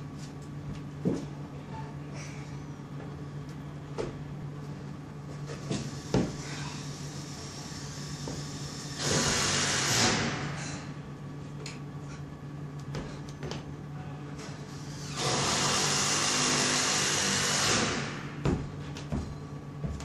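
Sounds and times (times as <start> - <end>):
low indoor hum: 0.0 - 20.0.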